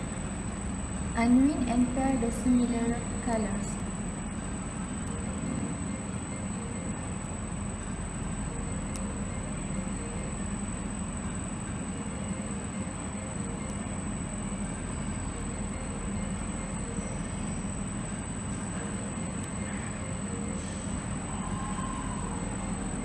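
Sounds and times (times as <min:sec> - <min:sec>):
background rumble and hiss: 0:00.0 - 0:23.0
faint high-pitched whine: 0:00.0 - 0:23.0
low hum: 0:00.0 - 0:23.0.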